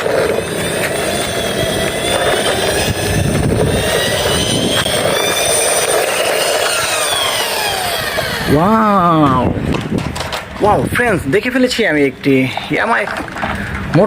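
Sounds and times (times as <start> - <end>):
engine-like rushing noise: 0.0 - 14.0
faint whining tones: 0.0 - 14.0.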